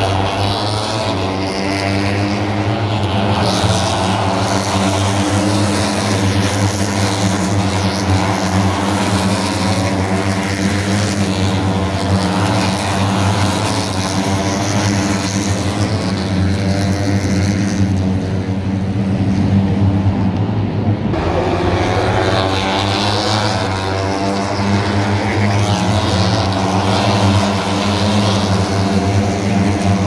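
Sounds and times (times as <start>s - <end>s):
engine drone: 0.0s - 30.0s.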